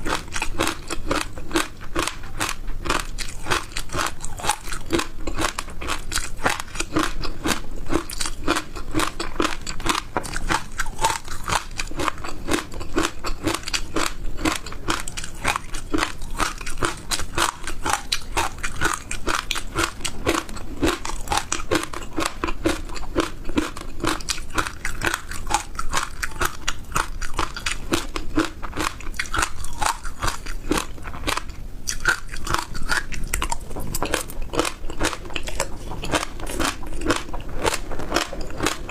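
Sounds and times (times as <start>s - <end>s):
chewing crunchy seeds: 0.0s - 38.9s.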